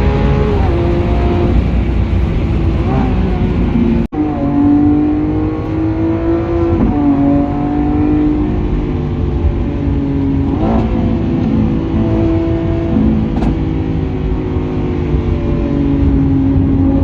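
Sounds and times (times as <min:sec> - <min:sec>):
sports car engine running: 0:00.0 - 0:17.0.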